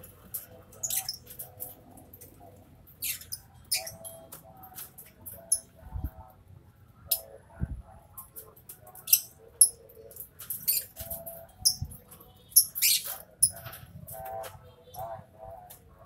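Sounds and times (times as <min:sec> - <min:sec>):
lovebirds chattering and screeching: 0:00.3 - 0:06.1, 0:08.2 - 0:15.8.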